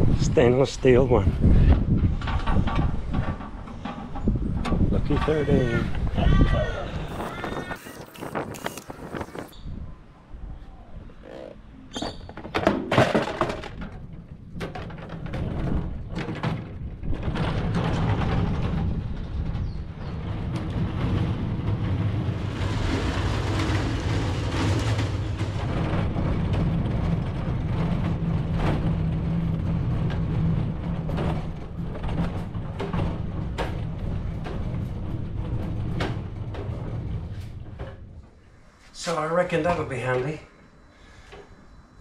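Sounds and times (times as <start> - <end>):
tool cart rolling over concrete: 0.1 - 9.6, 12.4 - 38.4.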